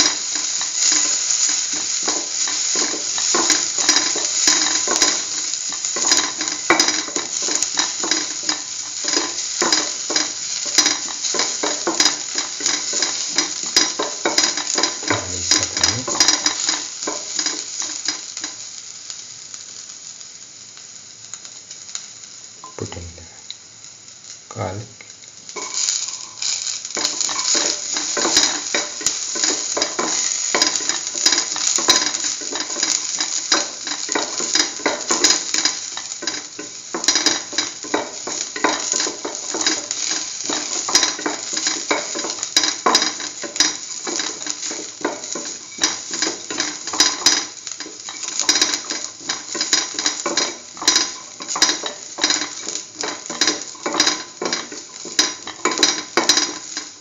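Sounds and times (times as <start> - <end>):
onion and garlic sizzling in oil: 0.0 - 57.0.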